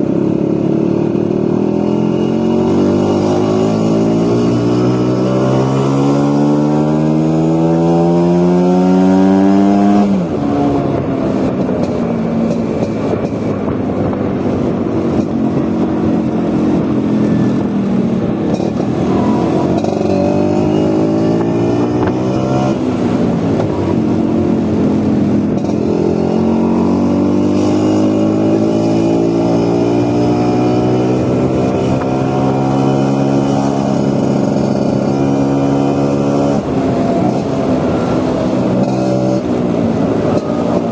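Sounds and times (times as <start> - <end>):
scooter engine accelerating: 0.0 - 40.9.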